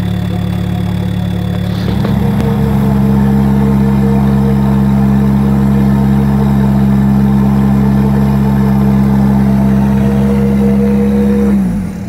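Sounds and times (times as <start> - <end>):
engine running at high revs: 0.0 - 12.0.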